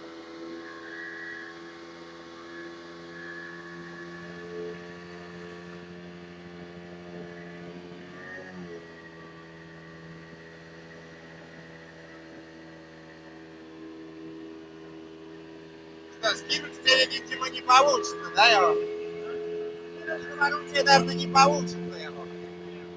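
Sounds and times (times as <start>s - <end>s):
motorboat engine running: 0.0s - 22.9s.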